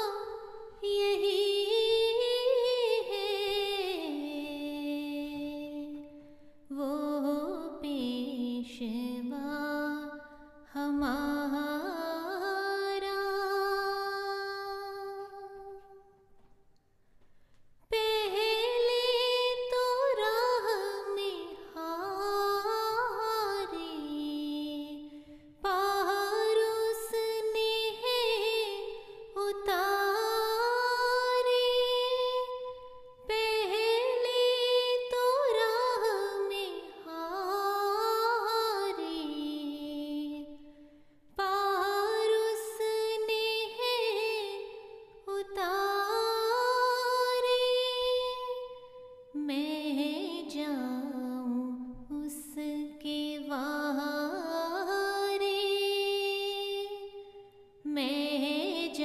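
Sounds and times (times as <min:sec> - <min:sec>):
woman singing unaccompanied: 0:00.0 - 0:16.1, 0:17.9 - 0:40.6, 0:41.3 - 0:59.0.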